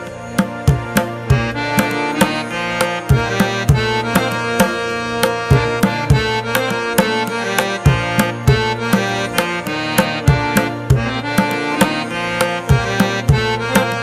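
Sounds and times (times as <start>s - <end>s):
drum rhythm: 0.0s - 14.0s
sustained melodic notes: 0.0s - 14.0s.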